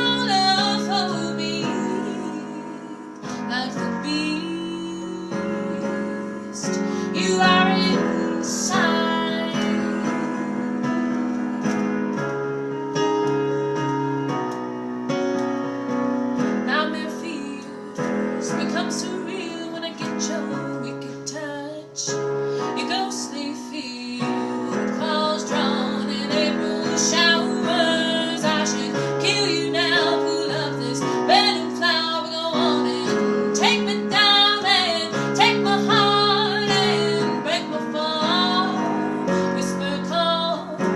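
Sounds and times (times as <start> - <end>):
woman singing jazz: 0.0 - 11.8, 16.6 - 40.9
piano accompaniment: 0.0 - 40.9.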